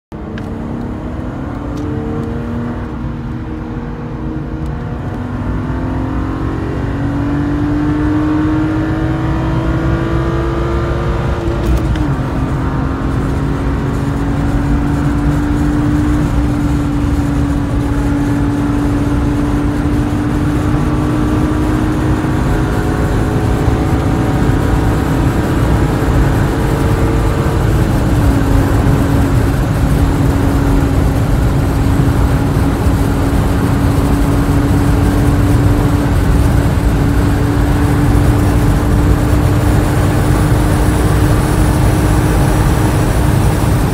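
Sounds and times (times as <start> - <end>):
car engine at full throttle: 0.1 - 43.9.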